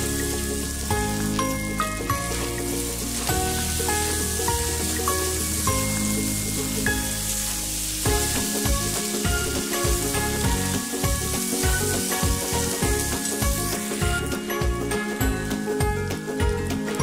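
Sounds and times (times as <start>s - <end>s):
background music with beat: 0.0s - 17.0s
potatoes sizzling in a pan: 0.0s - 17.0s.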